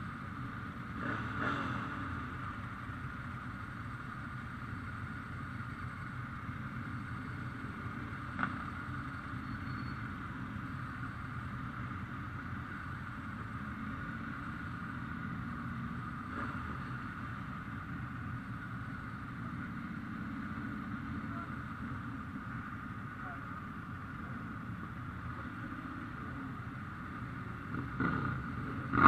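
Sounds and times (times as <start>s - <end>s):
motorcycle engines rumbling: 0.0s - 29.0s.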